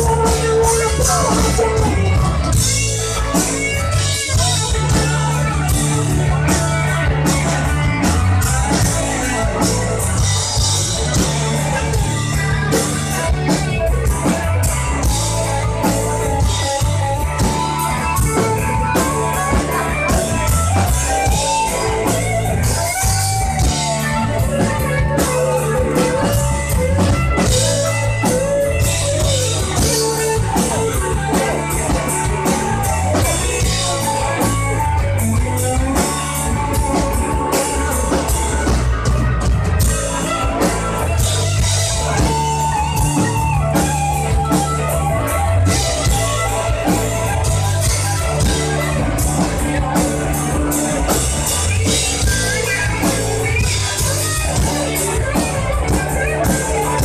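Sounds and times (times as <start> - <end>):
lead guitar bending: 0.0 - 57.0
rock band instrumental: 0.0 - 57.0.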